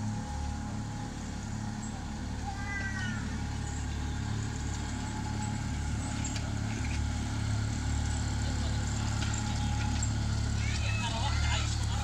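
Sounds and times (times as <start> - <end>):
miniature locomotive engine hum: 0.0 - 12.0.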